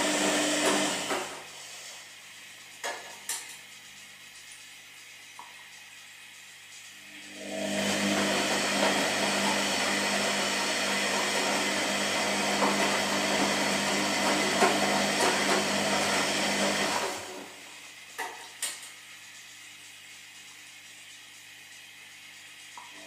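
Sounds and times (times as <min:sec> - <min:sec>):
washing machine running: 0:00.0 - 0:23.0.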